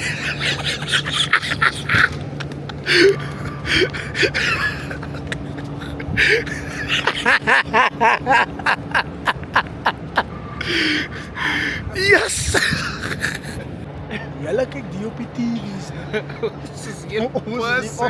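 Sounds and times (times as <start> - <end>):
people laughing: 0.0 - 14.4, 15.8 - 18.0.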